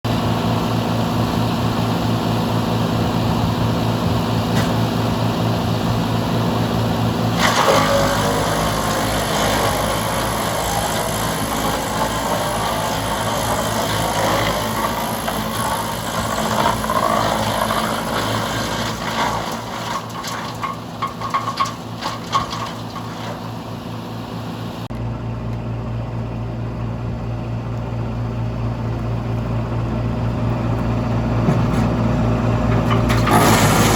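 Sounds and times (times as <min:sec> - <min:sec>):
wood chipper running: 0:00.1 - 0:33.9.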